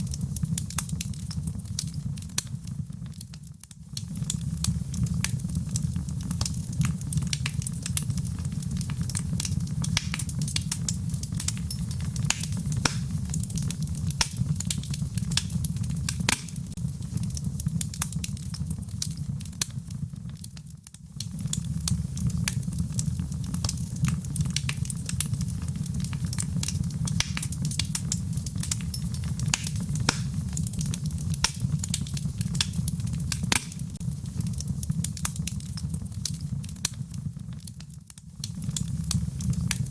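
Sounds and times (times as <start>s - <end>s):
burning wood crackling and popping: 0.0s - 39.9s
campfire flames rumbling: 0.0s - 39.9s.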